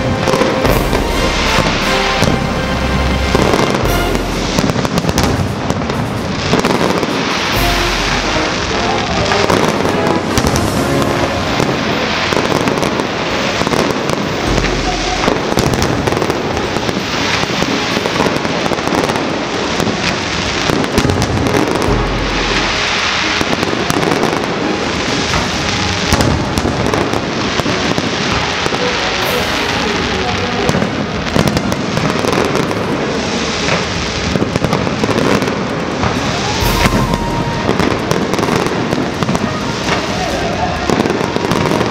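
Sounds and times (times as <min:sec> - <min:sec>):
fireworks crackling and banging: 0:00.0 - 0:41.9.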